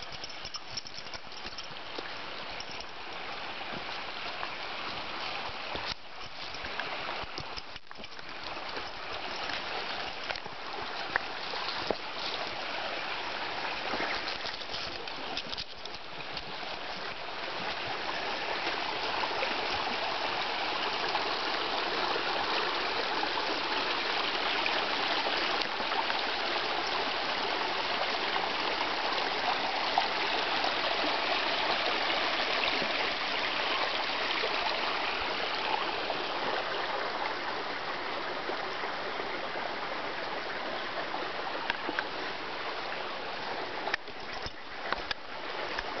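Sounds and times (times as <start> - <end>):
stream running over rocks: 0.0 - 46.0.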